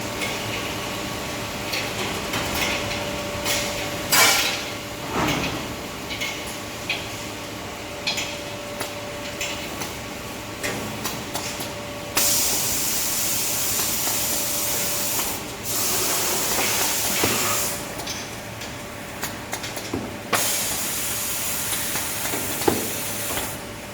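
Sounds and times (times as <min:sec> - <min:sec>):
machine humming with light clicks: 0:00.0 - 0:23.9.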